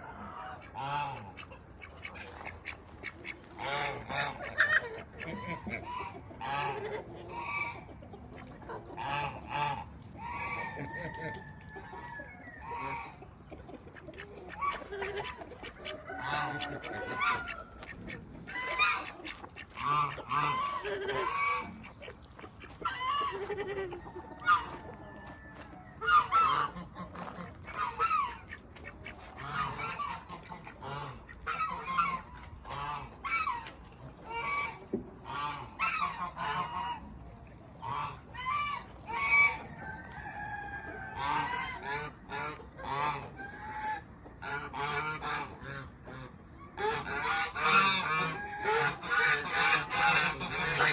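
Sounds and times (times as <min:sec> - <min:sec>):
geese honking: 0:00.0 - 0:07.8, 0:13.9 - 0:25.1, 0:26.0 - 0:37.1, 0:37.8 - 0:50.9.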